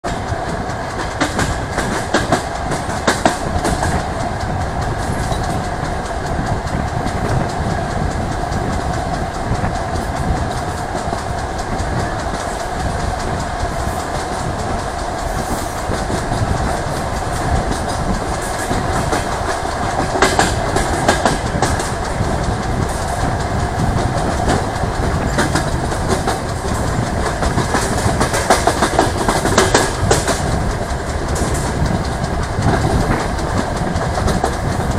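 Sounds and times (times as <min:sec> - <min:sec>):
train rolling rumble: 0:00.0 - 0:34.9
wheels clicking over rail joints: 0:00.0 - 0:34.9.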